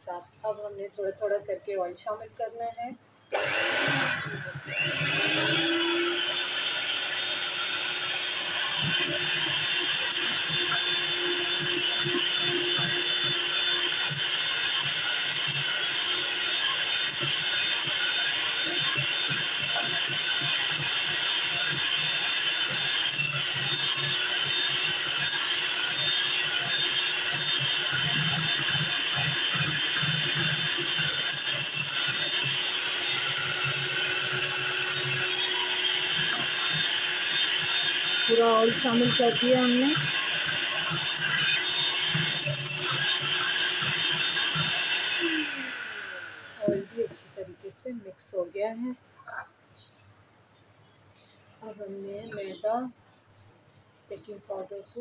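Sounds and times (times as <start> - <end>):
electric hand mixer whisking: 3.3 - 47.5, 51.7 - 52.6.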